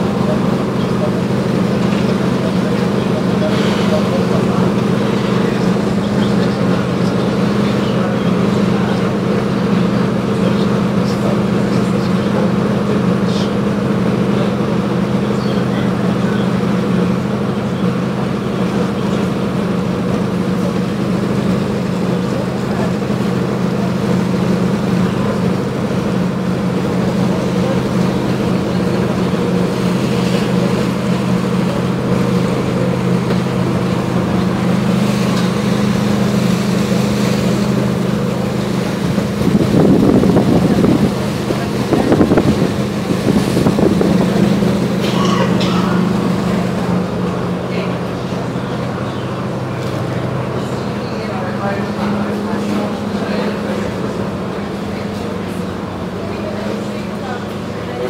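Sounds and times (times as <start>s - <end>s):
ferry diesel engines droning: 0.0s - 58.0s.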